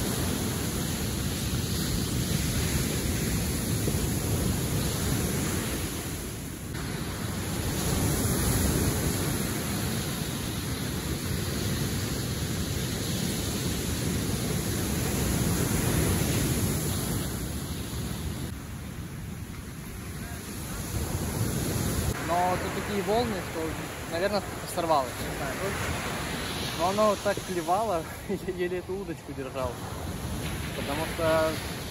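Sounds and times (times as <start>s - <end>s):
ocean surf on shore: 0.0s - 31.9s.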